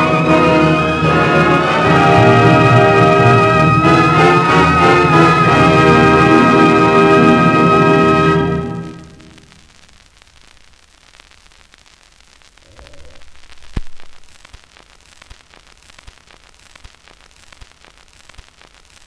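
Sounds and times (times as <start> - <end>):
record surface hiss and crackle: 0.0 - 19.0.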